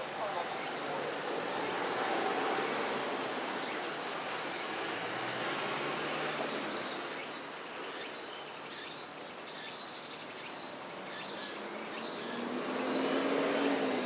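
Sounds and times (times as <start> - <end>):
insects chirring: 0.0 - 14.0
steady background hiss: 0.0 - 14.0.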